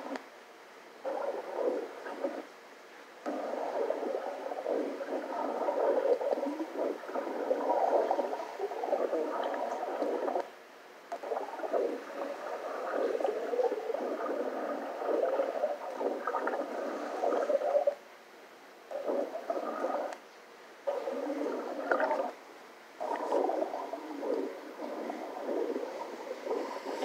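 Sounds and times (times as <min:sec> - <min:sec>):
muffled underwater gurgling: 0:01.0 - 0:02.5, 0:03.2 - 0:10.5, 0:11.1 - 0:18.0, 0:18.9 - 0:20.2, 0:20.8 - 0:22.4, 0:23.0 - 0:27.0.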